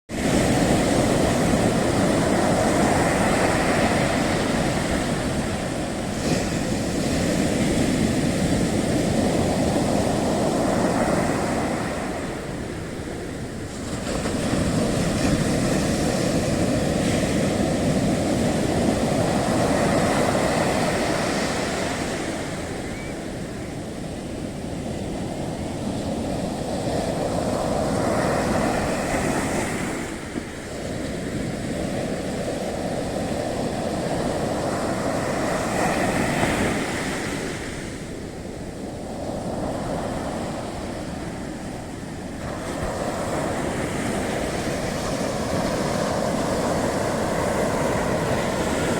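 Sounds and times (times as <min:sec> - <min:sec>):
ocean waves breaking on beach: 0:00.1 - 0:48.9.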